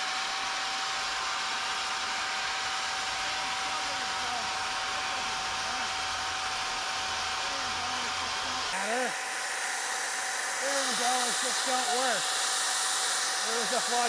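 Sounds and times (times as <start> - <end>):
electric fan rushing whine: 0.0 - 14.0.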